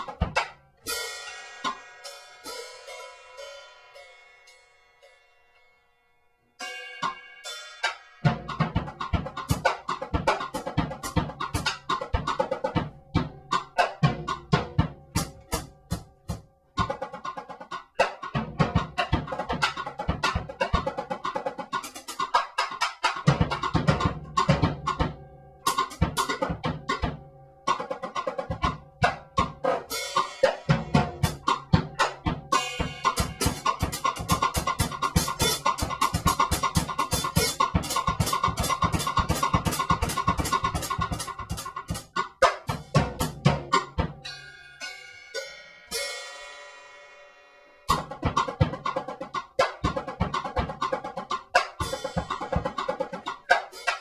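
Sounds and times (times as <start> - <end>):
drum kit playing: 0.0 - 3.0, 6.6 - 54.0.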